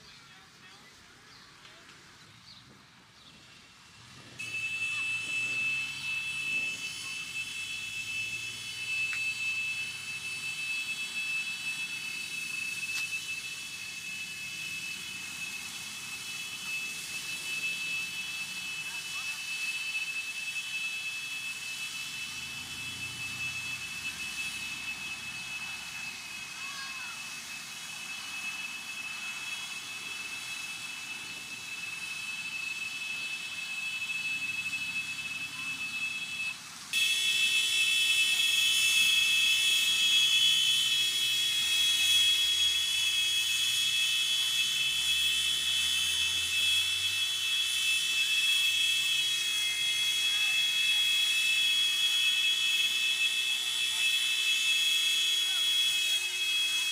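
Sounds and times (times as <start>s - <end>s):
high-pressure water jet hissing: 3.4s - 56.9s.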